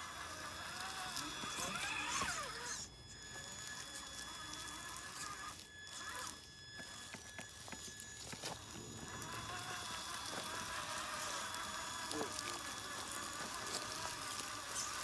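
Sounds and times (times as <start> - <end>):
rc truck electric motor whine: 0.0 - 15.0.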